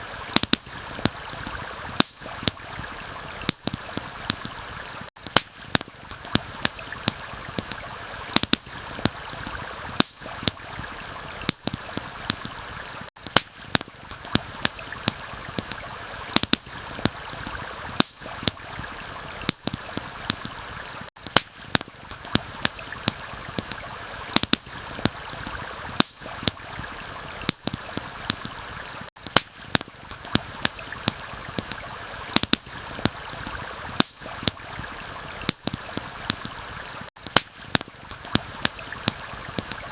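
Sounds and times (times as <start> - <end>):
stream rushing: 0.0 - 21.1, 22.1 - 29.1, 30.0 - 37.1
campfire crackling and popping: 0.0 - 39.9.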